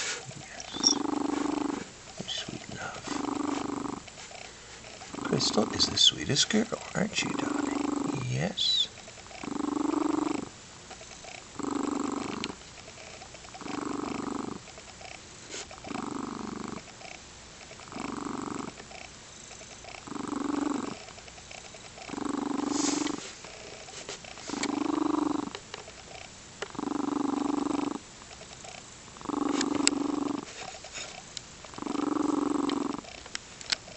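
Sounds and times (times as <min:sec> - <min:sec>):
cat purring: 0:00.0 - 0:33.2.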